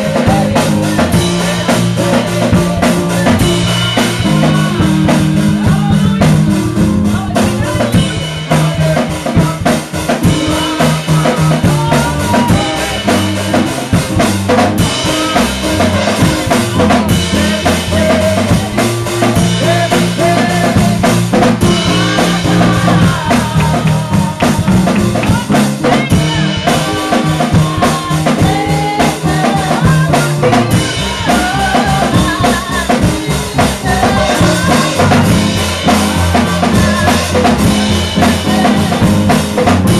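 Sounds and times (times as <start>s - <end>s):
bass line: 0.0s - 39.9s
drum kit beat: 0.0s - 39.9s
woman singing into microphone: 0.0s - 39.9s.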